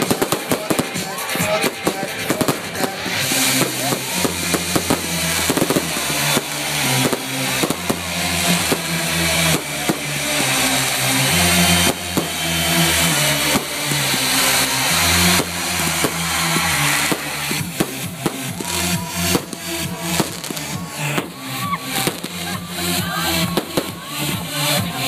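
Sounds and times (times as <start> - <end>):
fireworks popping and crackling: 0.0 - 25.0
party music with heavy bass: 0.0 - 25.0.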